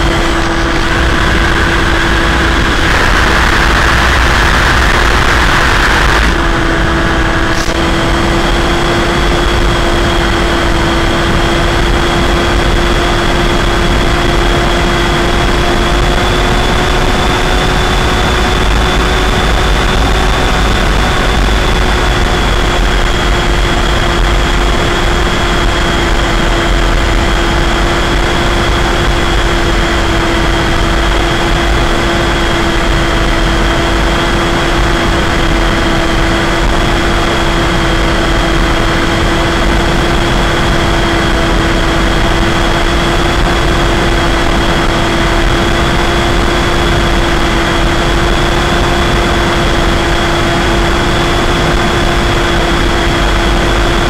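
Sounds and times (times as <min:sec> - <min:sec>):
electric motor and propeller humming: 0:00.0 - 0:54.0
wind rumble on microphone: 0:00.0 - 0:54.0.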